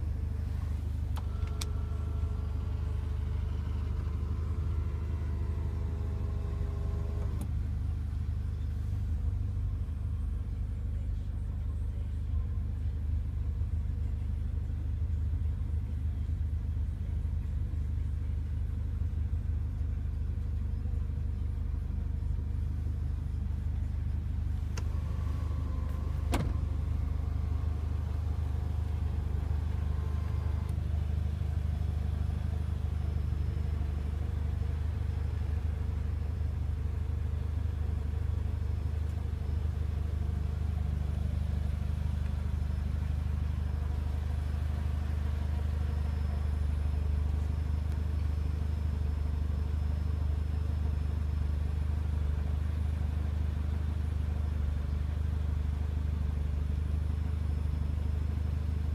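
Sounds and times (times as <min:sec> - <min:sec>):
car engine idling: 0:00.0 - 0:58.9.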